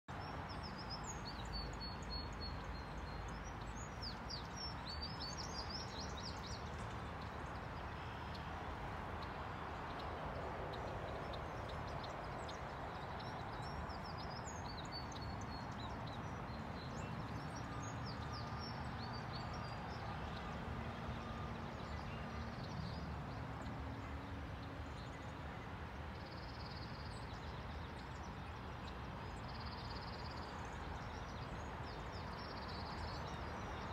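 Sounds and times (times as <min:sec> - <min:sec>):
outdoor background rush: 0:00.1 - 0:33.9.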